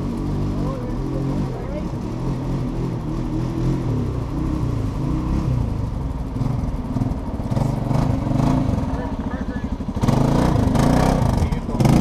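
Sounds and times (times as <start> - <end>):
quad engine revving past: 0.0 - 9.2, 10.0 - 12.0
vehicle engine idling: 0.0 - 12.0.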